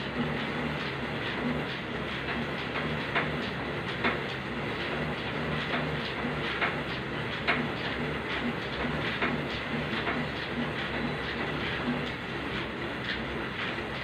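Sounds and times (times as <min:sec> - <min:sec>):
cross-trainer flywheel whirring: 0:00.0 - 0:14.0
rhythmic click and knock: 0:00.0 - 0:14.0.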